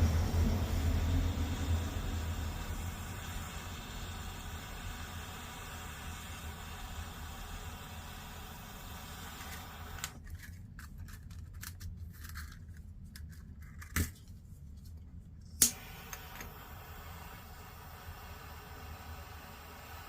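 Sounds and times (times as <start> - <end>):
low hiss and hum: 0.0 - 13.4, 14.0 - 20.0.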